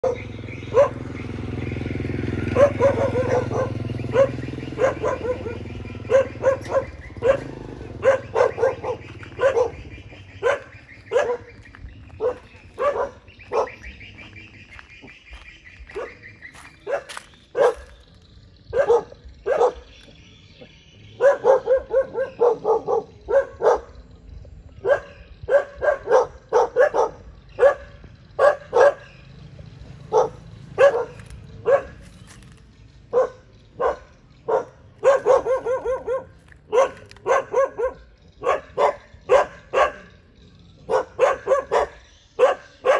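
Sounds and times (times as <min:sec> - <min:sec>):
dogs barking: 0:00.0 - 0:20.2, 0:21.0 - 0:42.9.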